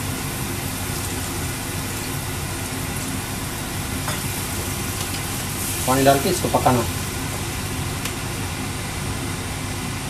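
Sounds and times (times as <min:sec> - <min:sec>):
sizzling hiss in a pan: 0:00.0 - 0:08.4.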